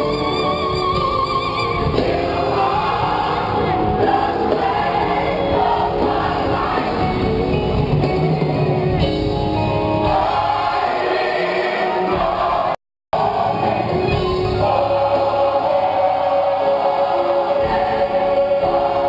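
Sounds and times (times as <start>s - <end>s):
gospel choir singing: 1.6s - 7.9s, 9.9s - 19.0s.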